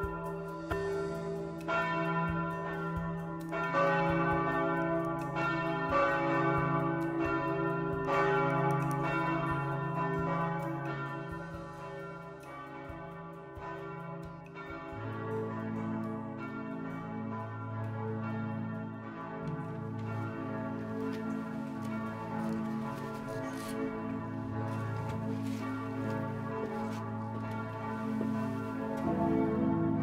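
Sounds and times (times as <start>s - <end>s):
church bells ringing: 0.0s - 30.0s
low sustained bell tone: 0.0s - 30.0s.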